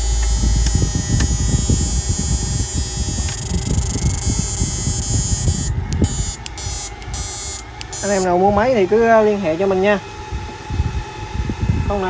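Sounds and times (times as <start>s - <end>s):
high electrical whine: 0.0s - 12.0s
rough electrical buzz: 0.0s - 12.0s.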